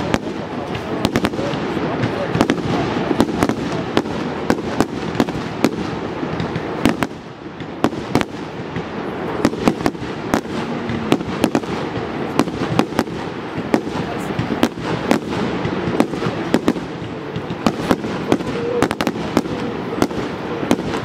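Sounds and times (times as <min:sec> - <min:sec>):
continuous rumble: 0:00.0 - 0:21.0.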